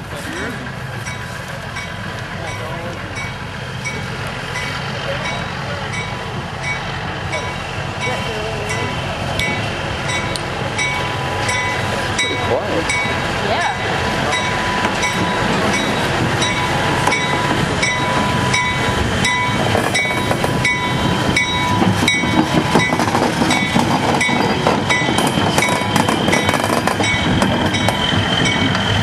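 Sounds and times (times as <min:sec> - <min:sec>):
locomotive engine rumbling: 0:00.0 - 0:29.0
locomotive bell ringing: 0:00.5 - 0:29.0.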